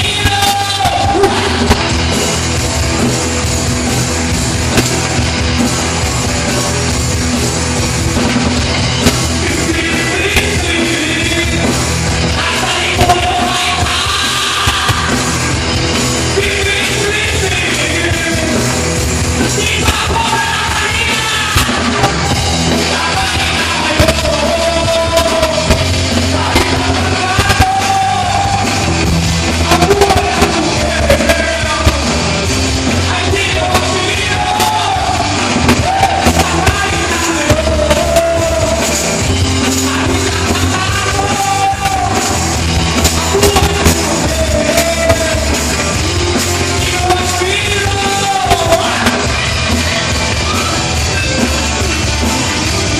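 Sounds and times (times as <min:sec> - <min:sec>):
lead singer singing: 0:00.0 - 0:52.9
rock band playing live: 0:00.0 - 0:52.9.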